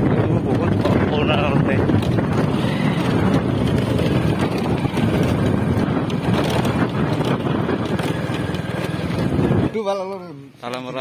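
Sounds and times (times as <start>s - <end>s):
vehicle rumble: 0.0s - 10.2s
wind buffeting microphone: 0.0s - 10.3s.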